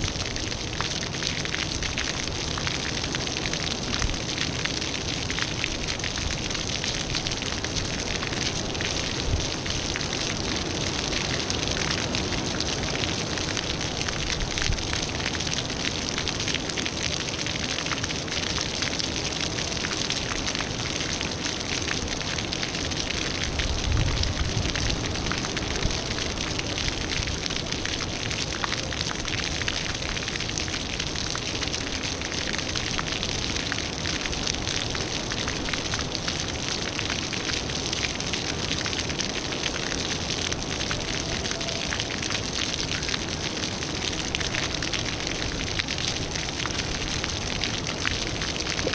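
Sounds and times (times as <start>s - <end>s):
fountain water splashing: 0.0s - 48.9s.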